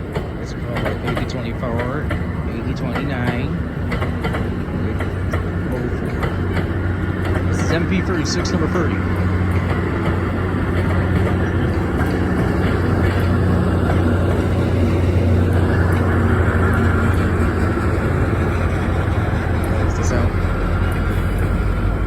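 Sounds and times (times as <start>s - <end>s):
low engine hum: 0.0s - 22.0s
train wheels rumbling on rails: 0.0s - 22.0s.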